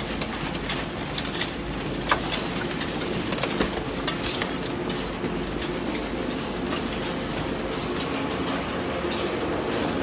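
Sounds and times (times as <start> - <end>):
conveyor mechanical hum: 0.0 - 10.0.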